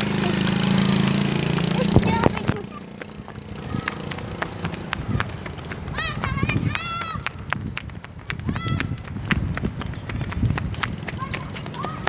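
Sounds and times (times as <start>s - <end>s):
bus engine passing: 0.0s - 8.1s, 10.4s - 12.0s.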